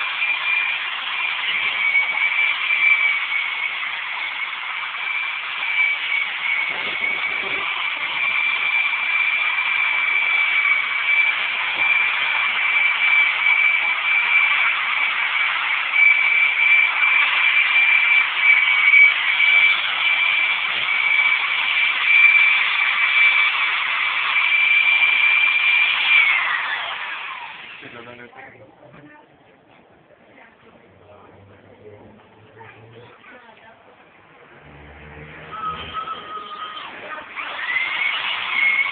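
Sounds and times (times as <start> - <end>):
angle grinder whining on glass: 0.0 - 28.3, 34.3 - 38.9.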